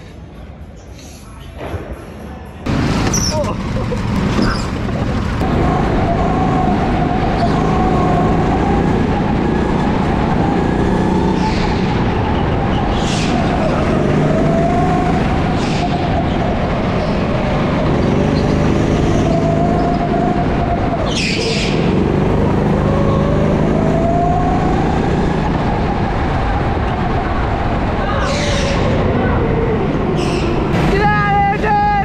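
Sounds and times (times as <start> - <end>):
go-kart motor drone: 2.7 - 31.0.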